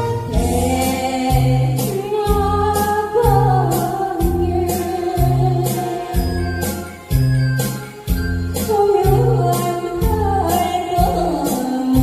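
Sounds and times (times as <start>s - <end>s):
backing track with steady beat: 0.0s - 12.0s
woman singing into microphone: 0.2s - 6.8s, 8.6s - 12.0s.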